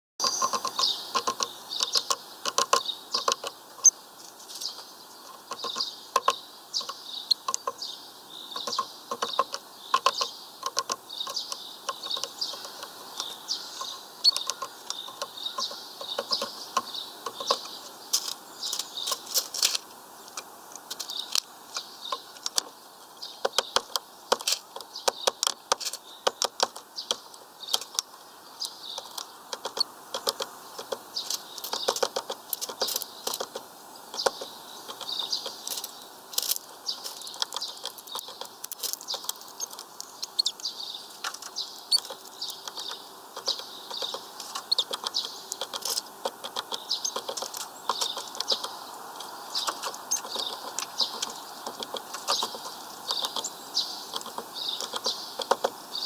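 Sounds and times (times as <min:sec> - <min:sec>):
beaks pecking and cracking seeds: 0:00.2 - 0:56.0
small birds chirping: 0:00.2 - 0:56.0.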